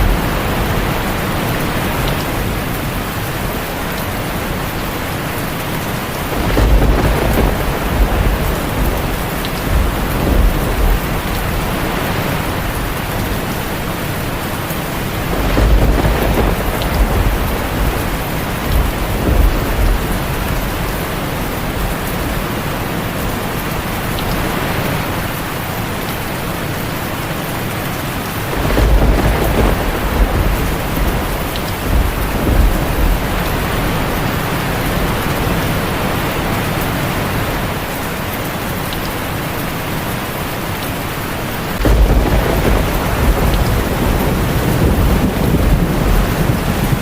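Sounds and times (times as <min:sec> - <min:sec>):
rolling thunder: 0:00.0 - 0:25.0, 0:28.2 - 0:36.7, 0:41.7 - 0:47.0
heavy rain on a tin roof: 0:00.0 - 0:47.0.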